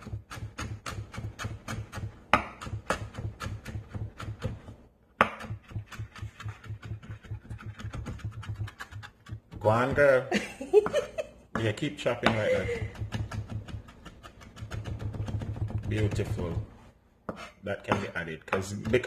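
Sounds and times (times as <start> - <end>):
knife chopping on plastic board: 0.0 - 19.0.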